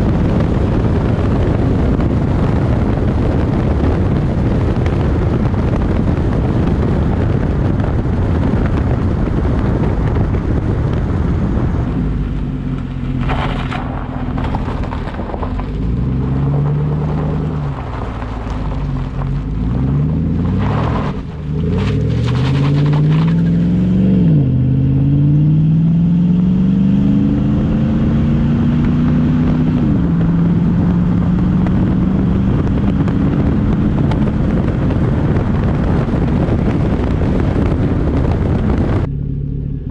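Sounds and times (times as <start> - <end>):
truck engine accelerating: 0.0 - 39.9
wind noise: 0.0 - 39.9.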